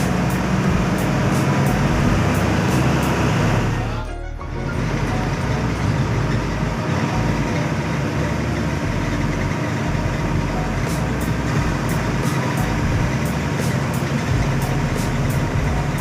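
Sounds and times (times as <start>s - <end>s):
bus diesel engine running: 0.0s - 16.0s
road noise: 0.0s - 16.0s.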